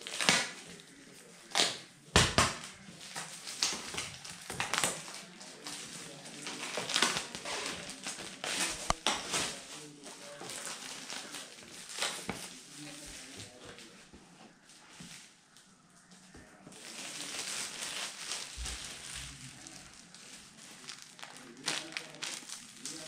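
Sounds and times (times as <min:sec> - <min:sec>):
plastic wrap snapping: 0:00.0 - 0:13.0, 0:16.8 - 0:23.0
plastic wrap tearing and crinkling: 0:00.0 - 0:13.6, 0:16.7 - 0:23.0.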